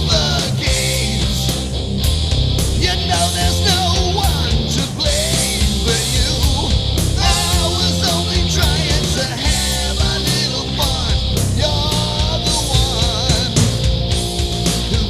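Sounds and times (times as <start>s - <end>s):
man singing: 0.0s - 1.5s, 2.8s - 15.0s
hard rock song: 0.0s - 15.0s.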